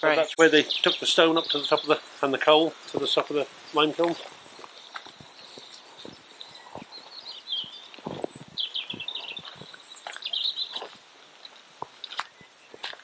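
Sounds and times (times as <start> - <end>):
small birds chirping: 0.0 - 13.0
footfalls on gravel: 0.7 - 13.0.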